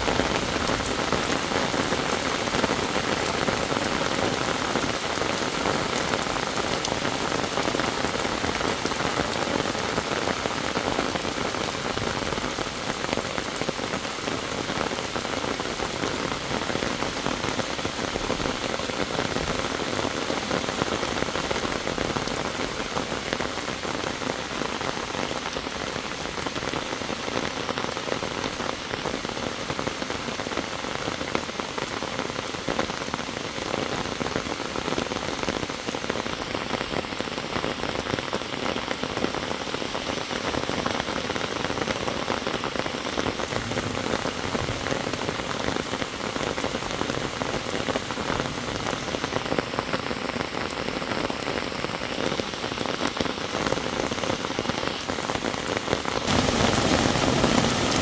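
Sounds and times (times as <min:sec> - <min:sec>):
heavy rain on a flooded road: 0:00.0 - 0:58.0.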